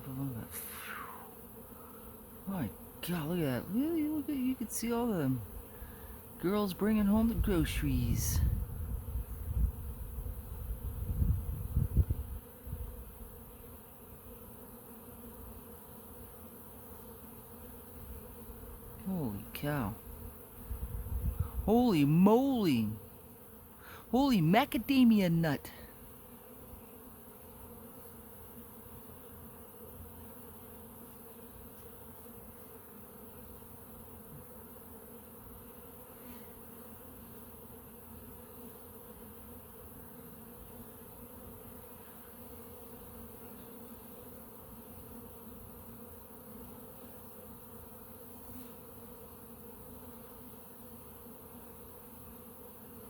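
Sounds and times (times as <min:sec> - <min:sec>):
honey bees buzzing: 0:00.0 - 0:53.0.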